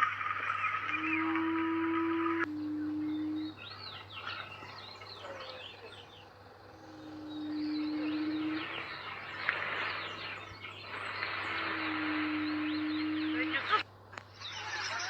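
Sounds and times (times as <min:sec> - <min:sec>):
chirping birds or insects: 0:00.0 - 0:15.0
low droning call: 0:00.0 - 0:15.0.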